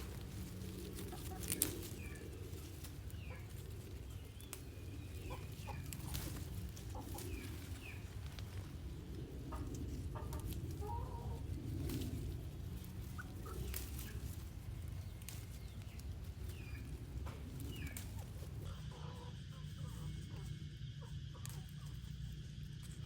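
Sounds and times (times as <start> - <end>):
chickens clucking: 0.0 - 23.0
steady low rumble: 0.0 - 23.0.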